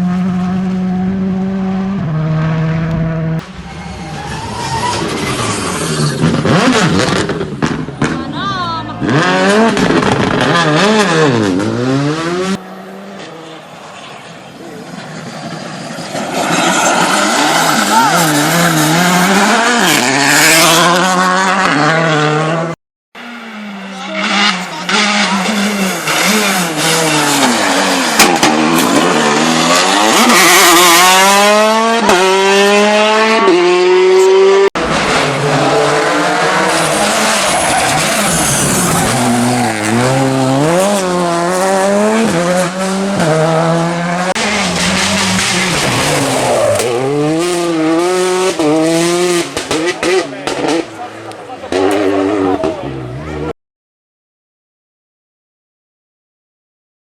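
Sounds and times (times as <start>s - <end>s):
rally car engine at full throttle: 0.0s - 53.5s.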